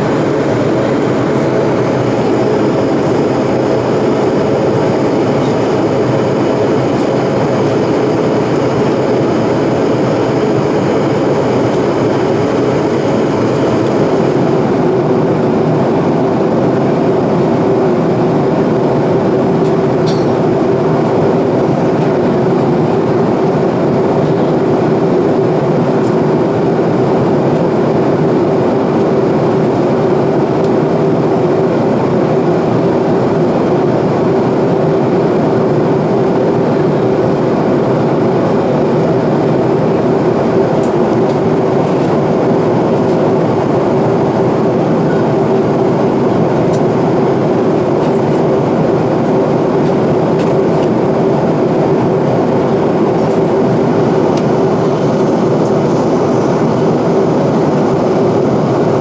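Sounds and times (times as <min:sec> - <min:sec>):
airflow rushing: 0:00.0 - 0:59.0
jet engines droning: 0:00.0 - 0:59.0
steady hum: 0:00.0 - 0:59.0.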